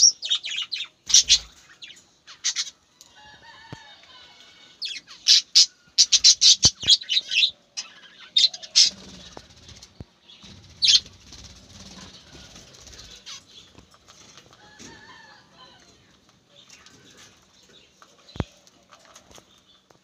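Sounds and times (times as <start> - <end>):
birds chirping: 0.0 - 3.9, 4.7 - 20.0.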